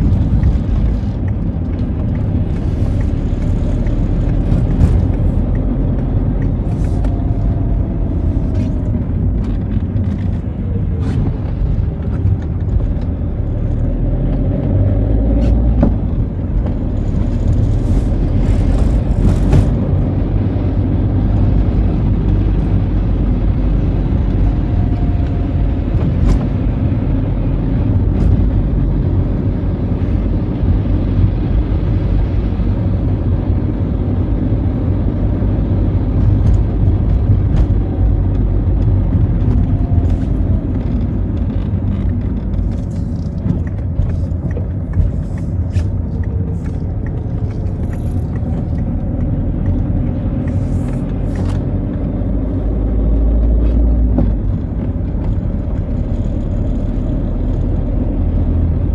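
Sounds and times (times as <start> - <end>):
car driving on wet road: 0.0 - 58.9.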